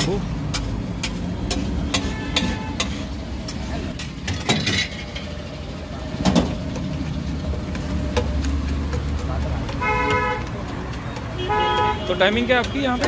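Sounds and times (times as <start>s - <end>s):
metal masher knocking on griddle: 0.0s - 3.7s, 6.2s - 13.0s
low traffic rumble: 0.0s - 13.0s.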